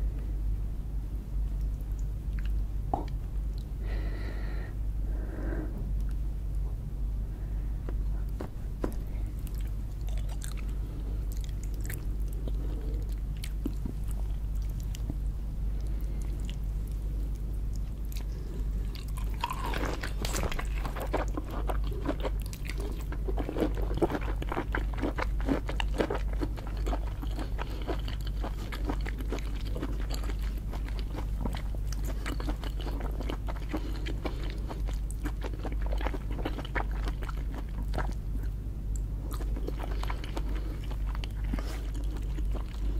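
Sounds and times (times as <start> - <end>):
steady low hum: 0.0 - 42.9
chewing and crunching shellfish: 7.8 - 42.9.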